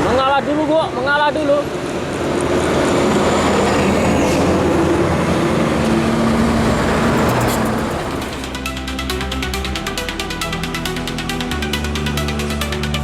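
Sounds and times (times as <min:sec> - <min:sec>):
heavy vehicle engine and tyre roar: 0:00.0 - 0:13.0.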